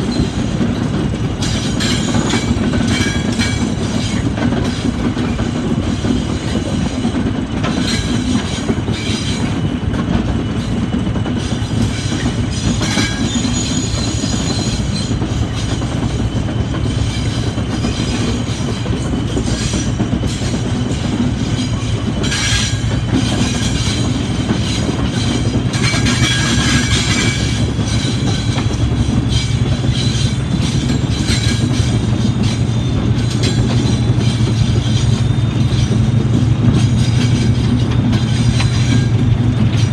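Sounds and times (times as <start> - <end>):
diesel locomotive drone: 0.0 - 39.9
wheel flange squeals: 0.0 - 39.9
wheels clattering over rail joints: 0.0 - 39.9.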